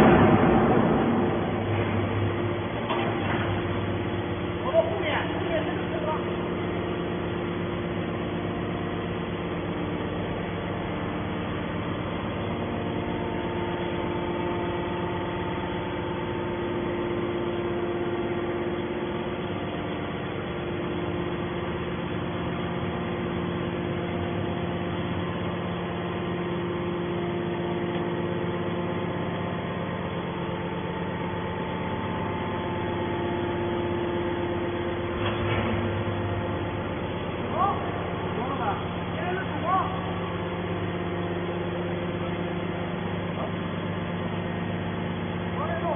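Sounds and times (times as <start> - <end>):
hydraulic motor and pump humming: 0.0 - 45.9.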